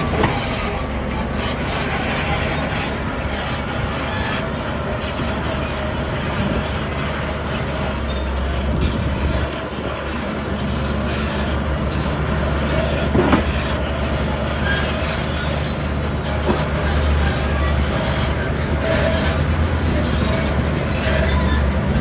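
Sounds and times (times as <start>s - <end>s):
heavy diesel machinery engine drone: 0.0s - 22.0s.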